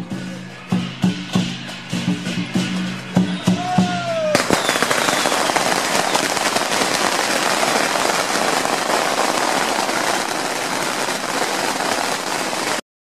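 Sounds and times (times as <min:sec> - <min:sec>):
firecrackers crackling: 0:00.0 - 0:12.8.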